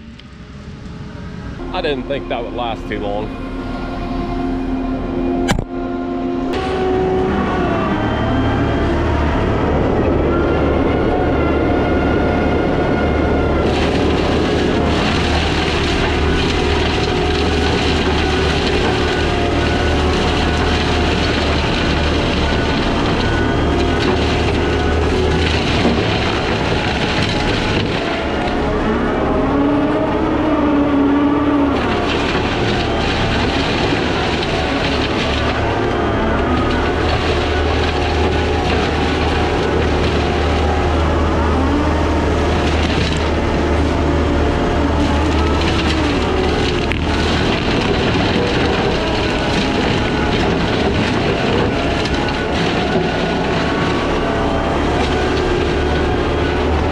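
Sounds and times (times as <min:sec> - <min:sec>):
mulching drum whine: 0:00.0 - 0:56.9
skid steer engine under load: 0:00.0 - 0:56.9.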